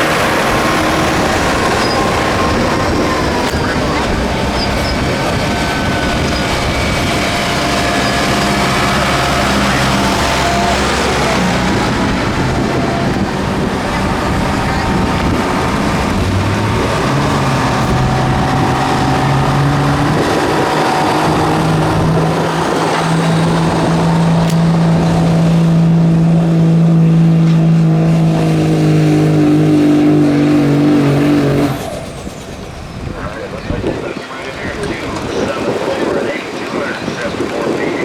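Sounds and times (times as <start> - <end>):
truck engine at full throttle: 0.0 - 38.0.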